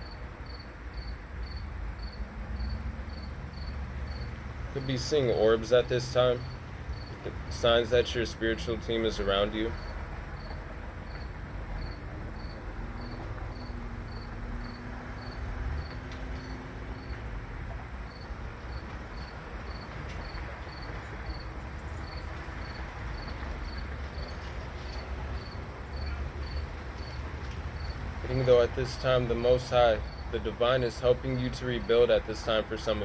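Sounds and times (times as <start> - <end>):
cricket chirping: 0.0 - 5.5, 6.2 - 7.8, 9.6 - 17.2, 18.0 - 30.3.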